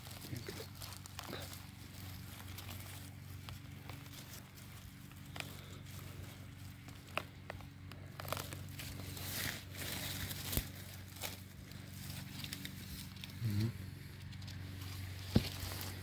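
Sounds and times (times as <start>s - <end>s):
dry leaves rustling and crackling: 0.0s - 16.0s
twigs snapping: 0.0s - 16.0s.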